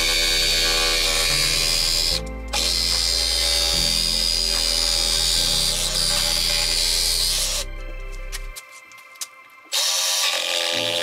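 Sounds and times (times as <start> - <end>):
power tool cutting sheet metal: 0.0 - 7.7, 9.7 - 11.0
background music with bass: 0.0 - 9.7.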